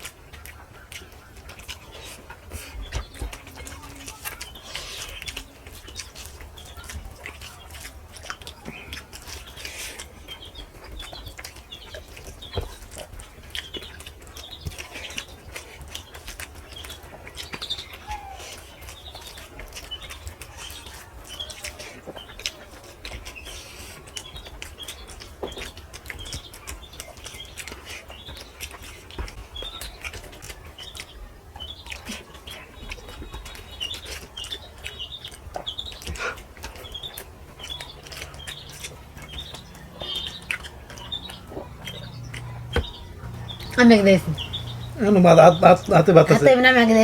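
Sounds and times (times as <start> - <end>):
person chewing with mouth smacking: 0.0 - 46.7
birds chirping: 0.0 - 47.0.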